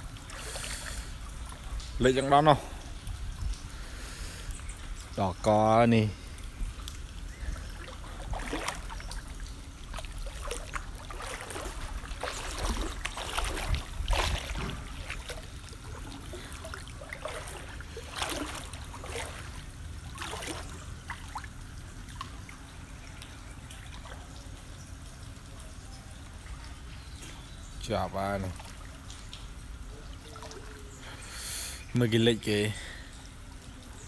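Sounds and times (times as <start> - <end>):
wading through sloshing water: 0.0 - 34.0.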